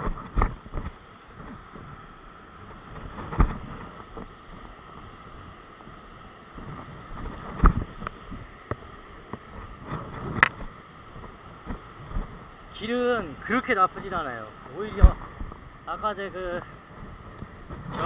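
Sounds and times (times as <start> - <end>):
wind noise on microphone: 0.0 - 12.6, 14.8 - 15.8, 16.5 - 18.0.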